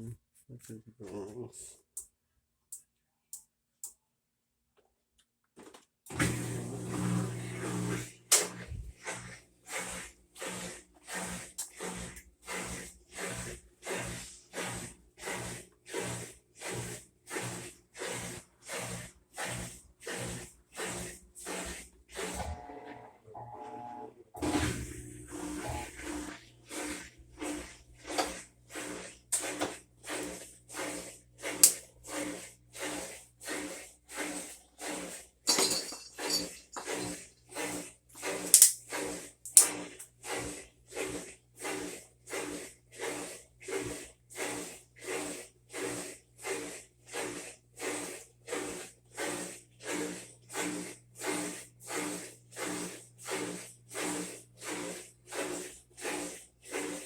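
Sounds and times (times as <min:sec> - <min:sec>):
washing machine motor whirring: 0:06.1 - 0:57.0.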